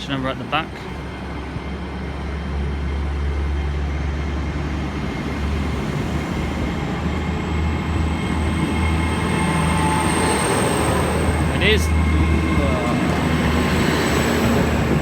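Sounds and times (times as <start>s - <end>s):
train engines rumbling: 0.0s - 15.0s.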